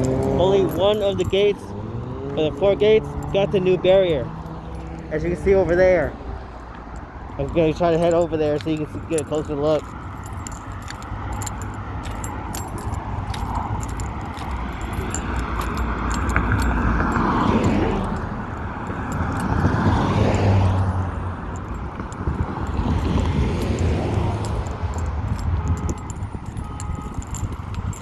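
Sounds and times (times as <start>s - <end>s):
cars passing: 0.0s - 28.0s
light clicks and jingles: 0.0s - 28.0s
low traffic rumble: 0.0s - 28.0s.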